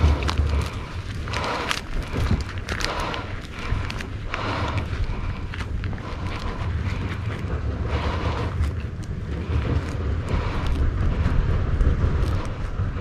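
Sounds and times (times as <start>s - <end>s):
branches crackling and scraping: 0.0s - 13.0s
wind buffeting microphone: 0.0s - 13.0s.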